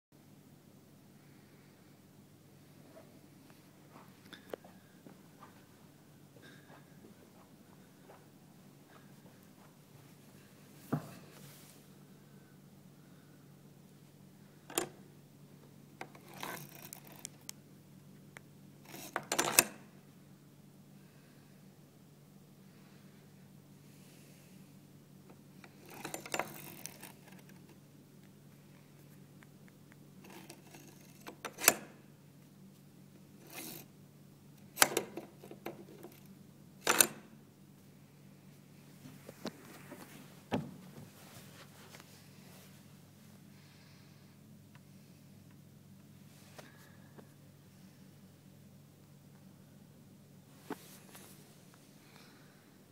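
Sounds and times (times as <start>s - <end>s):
low steady hum: 0.2s - 52.9s.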